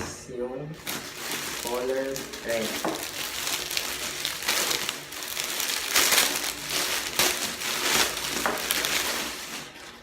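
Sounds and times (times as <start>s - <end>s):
plastic packaging crinkling: 0.8s - 10.0s.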